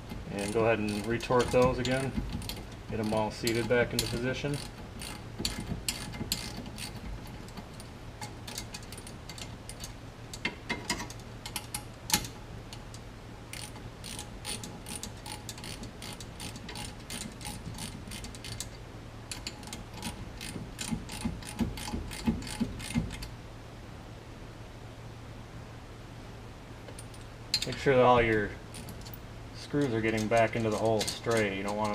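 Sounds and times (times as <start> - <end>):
steady low hum: 0.0 - 31.9
ratchet wrench clicking: 0.2 - 23.3, 27.0 - 31.9.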